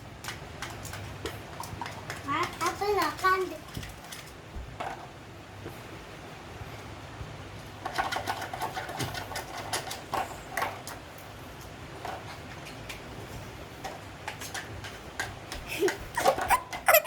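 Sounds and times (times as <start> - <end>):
small clicks and clattering knocks: 0.2 - 5.8, 7.8 - 16.9.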